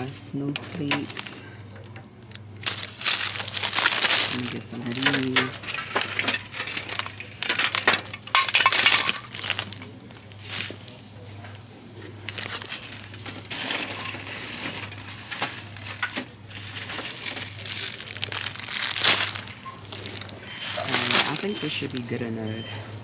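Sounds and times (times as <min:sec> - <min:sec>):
packaged ornaments rattling and clinking: 0:00.0 - 0:01.4, 0:02.6 - 0:09.9, 0:12.3 - 0:22.4.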